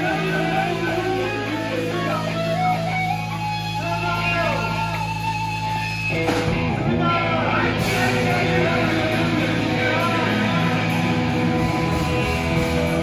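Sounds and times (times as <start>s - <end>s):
electric guitar lead lines: 0.0s - 13.0s
live rock band playing: 0.0s - 13.0s.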